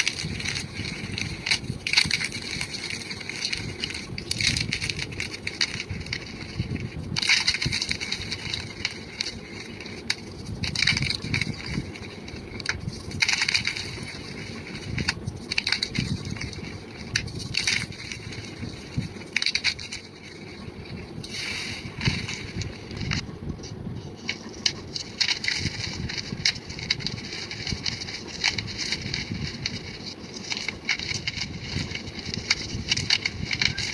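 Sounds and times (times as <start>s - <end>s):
chalk crumbling and crunching by hand: 0.0s - 33.9s.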